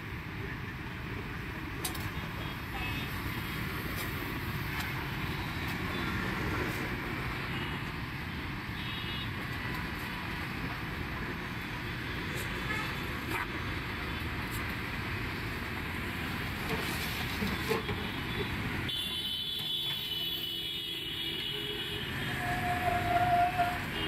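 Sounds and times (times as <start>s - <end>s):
rumble of passing vehicles: 0.0s - 24.0s.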